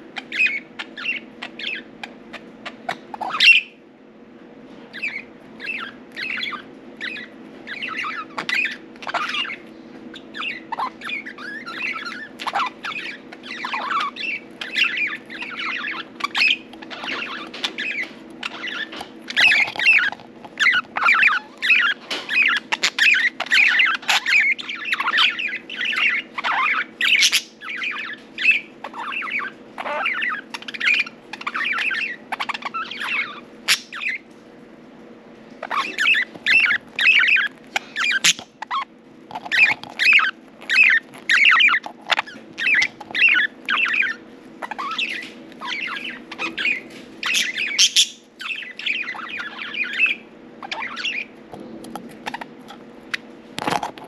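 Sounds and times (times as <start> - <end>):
budgerigars chirping: 0.0 - 3.8, 4.9 - 34.3, 35.6 - 51.4, 52.1 - 53.9
steady low hum: 0.0 - 54.0.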